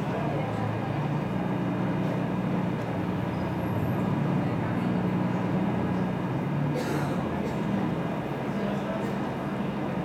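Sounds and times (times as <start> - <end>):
ferry engine humming: 0.0 - 10.0.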